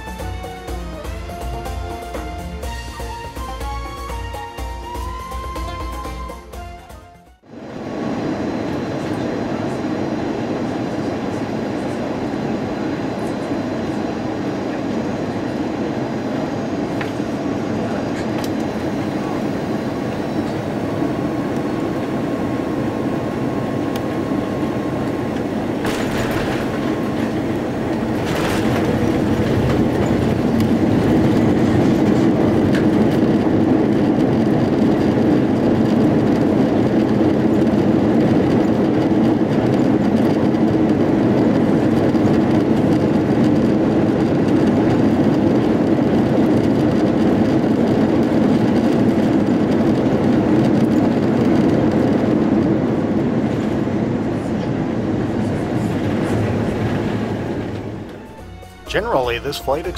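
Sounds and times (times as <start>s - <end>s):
aircraft cabin engine rumble: 4.6s - 59.9s.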